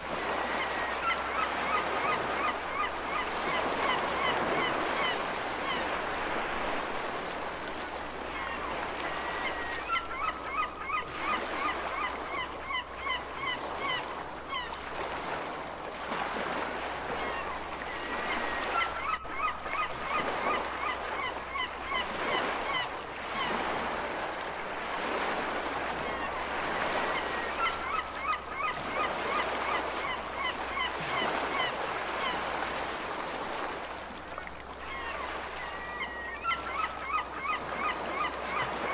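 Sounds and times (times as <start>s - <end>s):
gulls calling: 0.1s - 6.9s, 8.2s - 15.4s, 16.4s - 24.2s, 25.0s - 33.7s, 34.6s - 38.9s.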